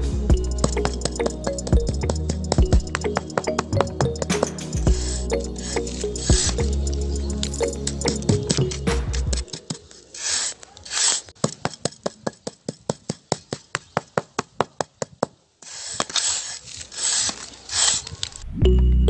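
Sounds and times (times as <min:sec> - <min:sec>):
trowel scraping wet concrete: 0:00.6 - 0:13.9, 0:15.6 - 0:18.4.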